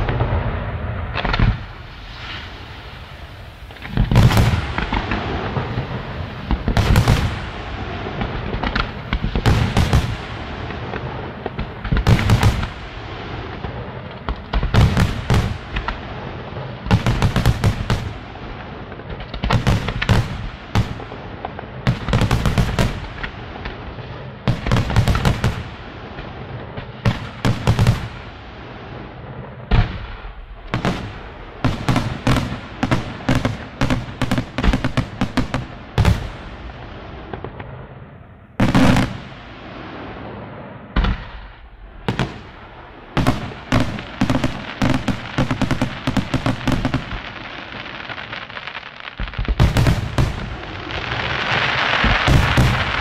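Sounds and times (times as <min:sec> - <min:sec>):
firework booms: 0:00.0 - 0:53.0
firework crackling: 0:00.0 - 0:53.0.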